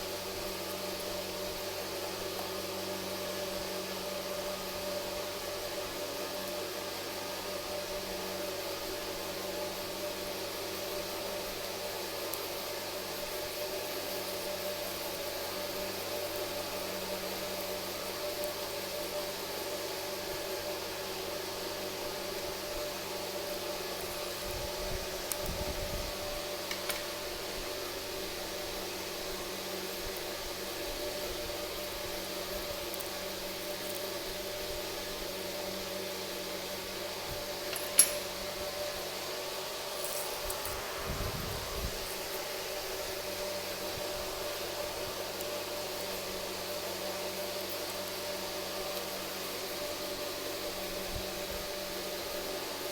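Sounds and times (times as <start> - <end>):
steady hiss: 0.0 - 52.9
steady mechanical hum: 0.0 - 52.9.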